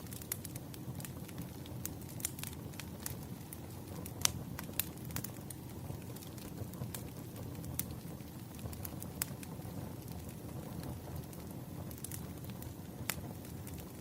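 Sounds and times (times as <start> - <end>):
firewood crackling and popping: 0.0 - 14.0
low rumble of flames: 0.0 - 14.0.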